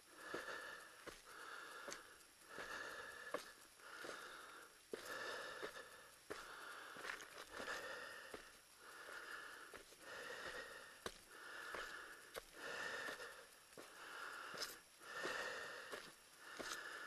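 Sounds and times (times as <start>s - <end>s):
person breathing hard: 0.0s - 17.0s.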